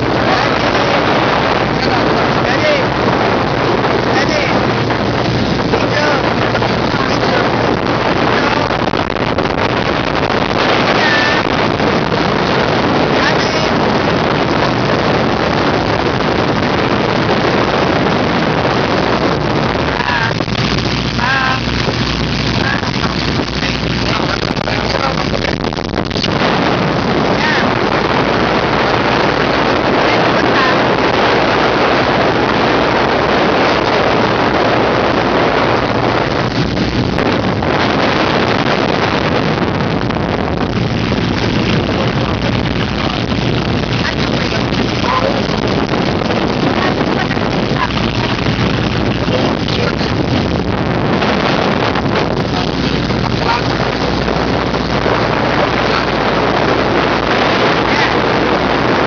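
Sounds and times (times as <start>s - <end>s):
boat engine running: 0.0s - 59.0s
rushing water: 0.0s - 59.0s
wind buffeting microphone: 0.0s - 59.0s.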